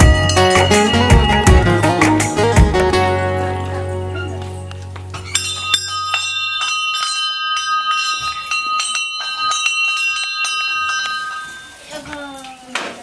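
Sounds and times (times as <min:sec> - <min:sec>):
bell ringing: 0:00.0 - 0:13.0.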